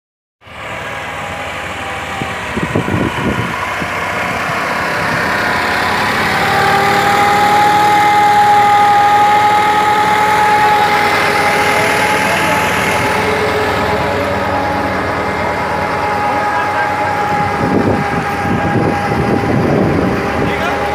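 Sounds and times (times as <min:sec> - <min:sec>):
engine whine: 0:00.4 - 0:20.9
tractor diesel engine running: 0:00.4 - 0:20.9.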